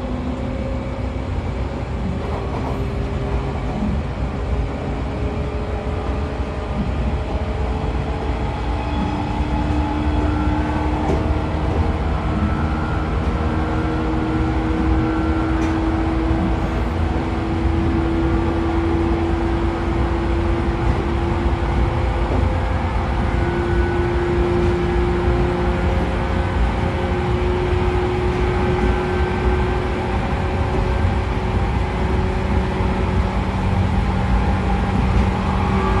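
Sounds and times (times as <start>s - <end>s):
train motors and gears whining: 0.0s - 36.0s
wheels rumbling on rail: 0.0s - 36.0s.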